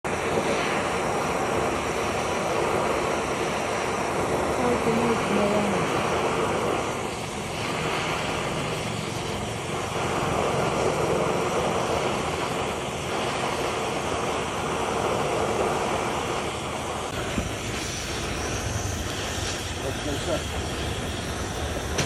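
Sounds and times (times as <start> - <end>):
cutting torch flame hissing: 0.1 - 22.0.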